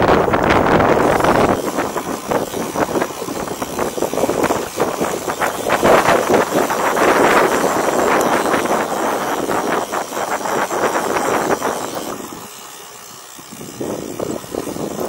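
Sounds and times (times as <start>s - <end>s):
wind buffeting microphone: 0.0s - 12.6s, 13.2s - 15.0s
bike rattling on dirt trail: 0.0s - 15.0s.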